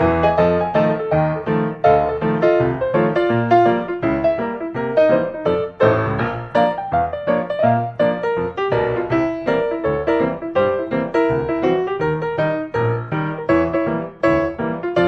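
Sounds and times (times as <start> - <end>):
light piano music: 0.0 - 15.0.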